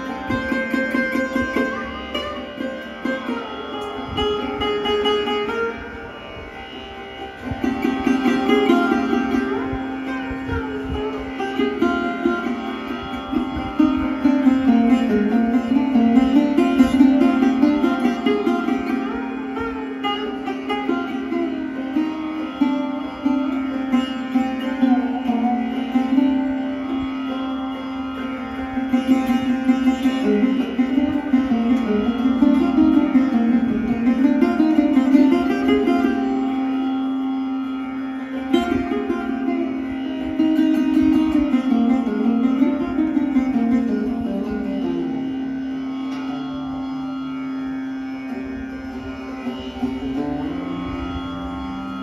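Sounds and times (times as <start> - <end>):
ringing drone strings: 0.0 - 52.0
sarod melody with sliding notes: 0.0 - 52.0.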